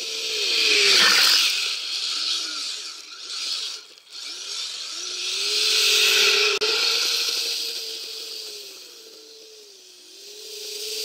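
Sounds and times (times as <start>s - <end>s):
electric motor whining: 0.0s - 11.0s
tracks hissing through snow: 0.0s - 11.0s.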